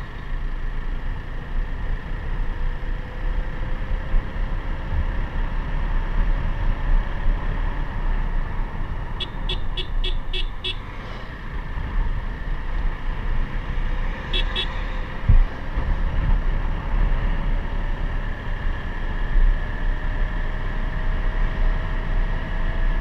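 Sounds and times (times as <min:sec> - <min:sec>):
motorcycle engine rumble: 0:00.0 - 0:22.2.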